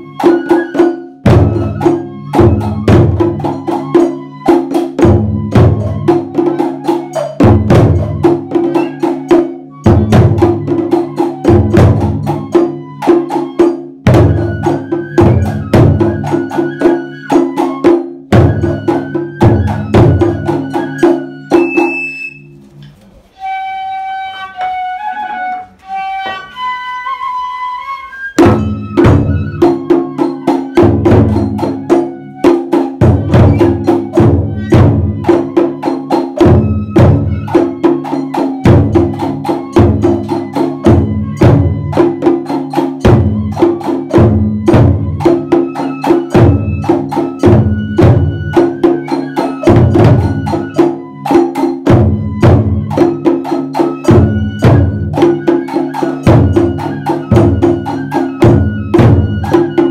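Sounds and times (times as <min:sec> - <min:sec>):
taiko drums struck with sticks: 0:00.0 - 0:22.4, 0:28.4 - 0:59.9
bamboo flute melody: 0:00.0 - 0:59.9.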